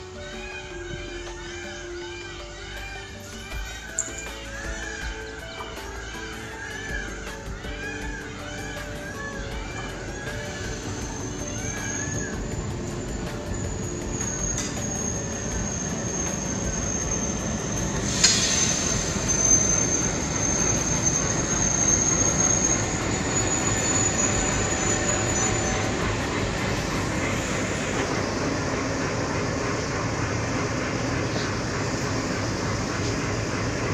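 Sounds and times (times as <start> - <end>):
high wheel squeal: 0.0 - 33.9
train rumbling on rails: 0.0 - 33.9.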